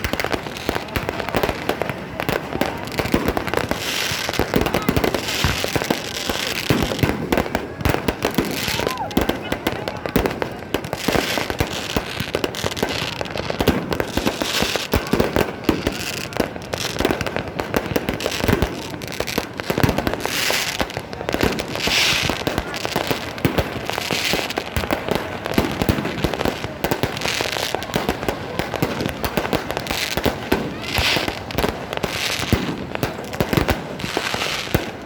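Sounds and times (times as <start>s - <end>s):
fireworks bangs and crackling: 0.0s - 35.0s
fireworks hissing bursts: 0.0s - 35.0s.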